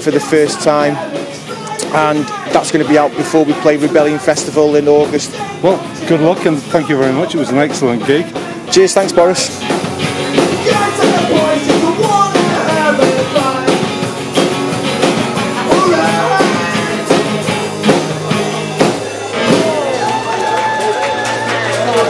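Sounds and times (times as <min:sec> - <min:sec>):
drum kit: 0:00.0 - 0:22.0
hard-strummed acoustic guitars: 0:00.0 - 0:22.0.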